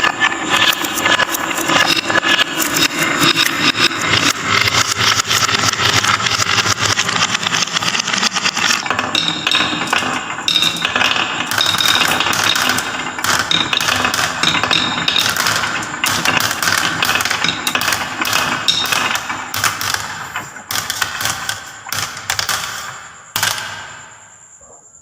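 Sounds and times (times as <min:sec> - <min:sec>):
marbles rattling down wooden track: 0:00.0 - 0:24.0.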